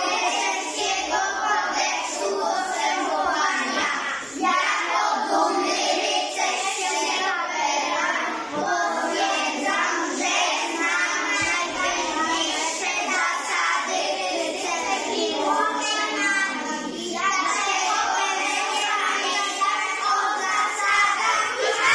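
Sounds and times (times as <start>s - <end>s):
children singing: 0.0s - 21.9s.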